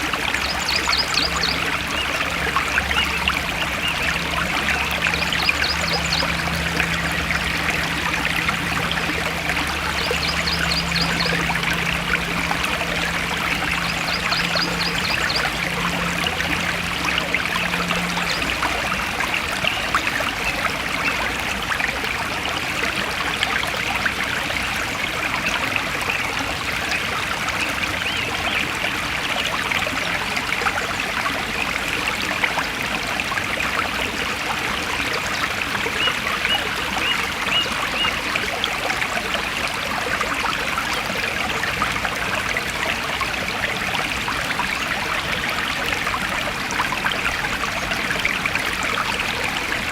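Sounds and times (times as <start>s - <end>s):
stream rushing and trickling: 0.0s - 49.9s.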